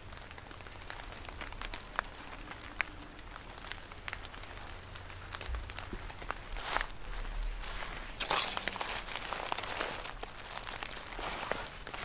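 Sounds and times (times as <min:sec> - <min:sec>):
low steady rumble: 0:00.0 - 0:12.0
rainwater dripping onto leaves: 0:00.0 - 0:12.0.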